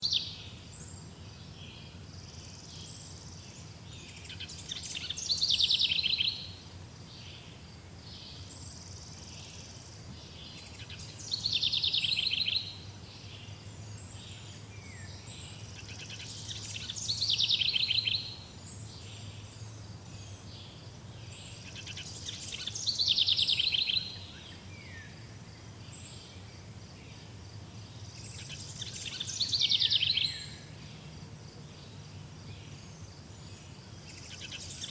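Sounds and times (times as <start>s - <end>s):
faint bird chirps: 0.0s - 6.6s, 7.2s - 25.2s, 25.8s - 31.1s, 31.7s - 34.9s.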